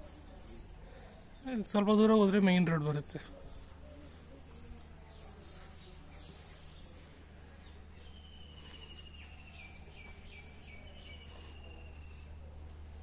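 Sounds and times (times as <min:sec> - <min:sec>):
birds chirping: 0:00.0 - 0:13.0
low steady hum: 0:00.0 - 0:13.0.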